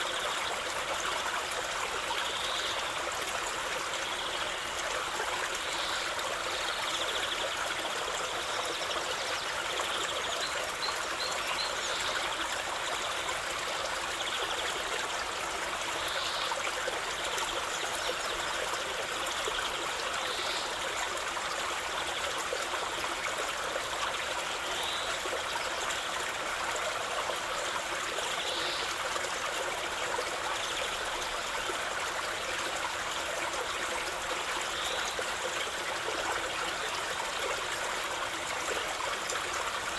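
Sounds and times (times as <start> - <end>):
stream of water trickling: 0.0 - 39.9.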